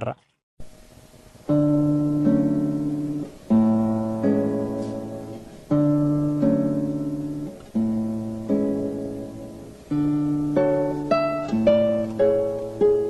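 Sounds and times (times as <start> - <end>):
flamenco guitar strummed chords: 1.4 - 13.0.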